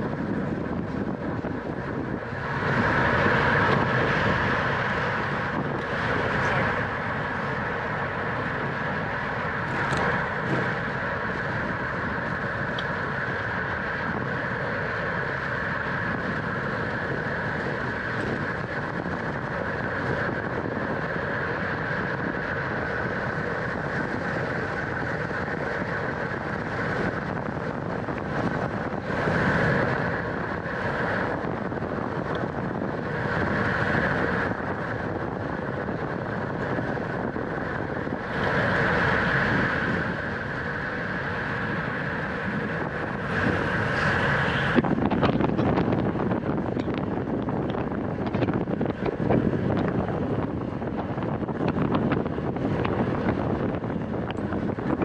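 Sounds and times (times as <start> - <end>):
road bike noise: 0.0 - 55.0
wind rushing: 0.0 - 55.0.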